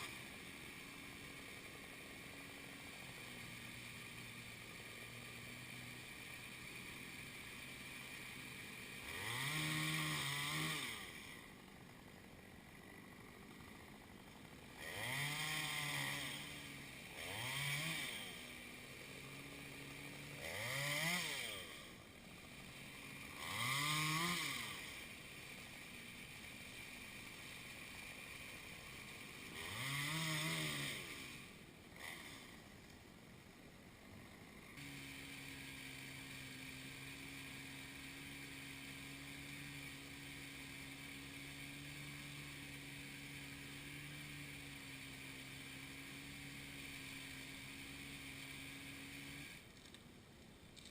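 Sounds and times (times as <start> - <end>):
chainsaw revving: 0.0 - 50.0
chainsaw engine droning: 0.0 - 50.9.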